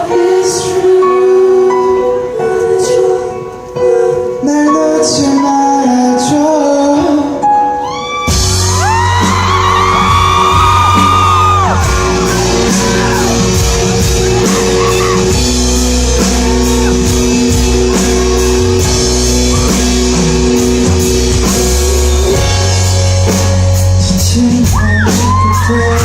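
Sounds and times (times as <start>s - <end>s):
live pop-rock band playing: 0.0s - 26.0s.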